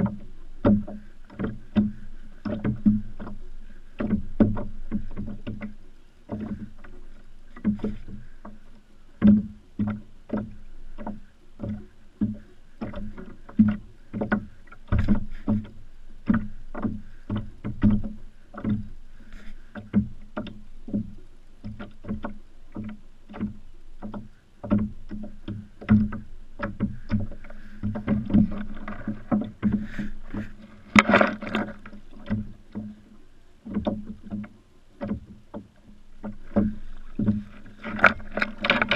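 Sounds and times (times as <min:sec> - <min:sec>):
kayak hull knocking and slapping: 0:00.0 - 0:38.9.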